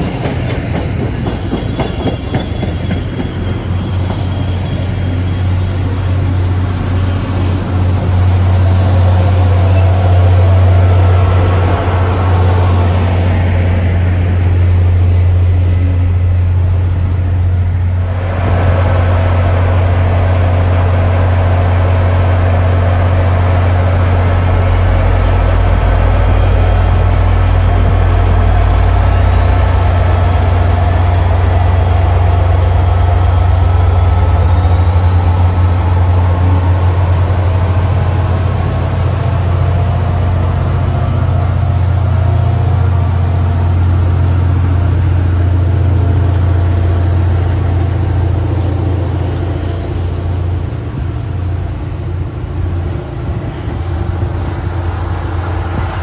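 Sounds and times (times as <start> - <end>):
diesel train running by: 0.0 - 56.0
deep engine rumble: 7.6 - 56.0.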